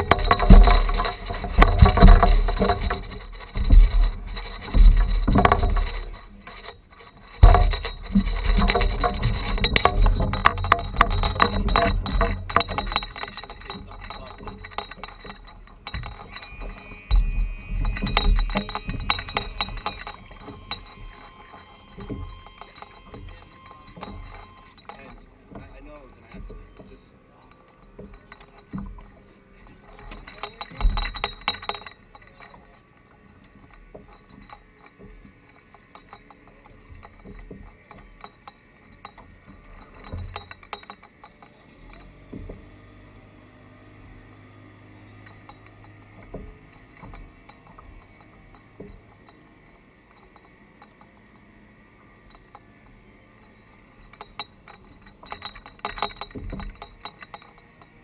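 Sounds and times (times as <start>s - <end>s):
fishing gear clinking and rattling: 0.0s - 58.0s
low steady hum: 0.0s - 58.0s.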